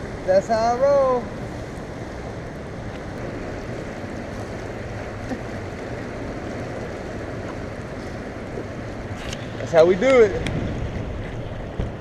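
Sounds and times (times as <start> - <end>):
water rushing around a boat: 0.0 - 12.0.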